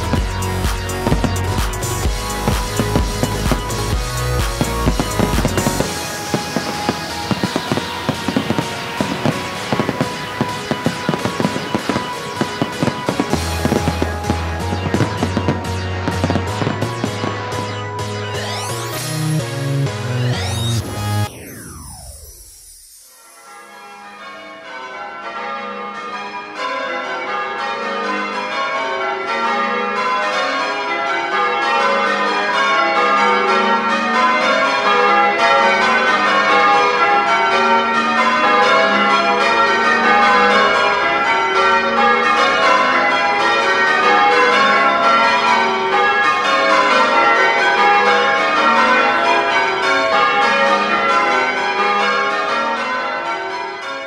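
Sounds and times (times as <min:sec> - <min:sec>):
church bells ringing: 0:00.0 - 0:22.2, 0:23.0 - 0:54.0.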